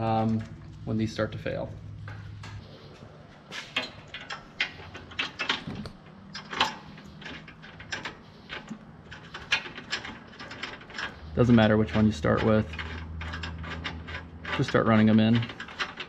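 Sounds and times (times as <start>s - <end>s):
bolts clicking and clattering: 0.0s - 16.0s.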